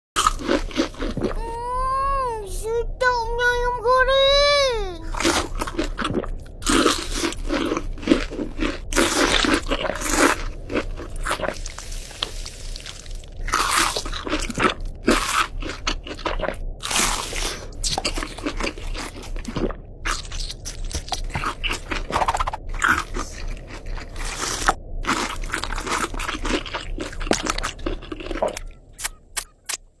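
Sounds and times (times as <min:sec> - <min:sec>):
crunching fried chicken: 0:00.2 - 0:01.4, 0:05.2 - 0:29.9.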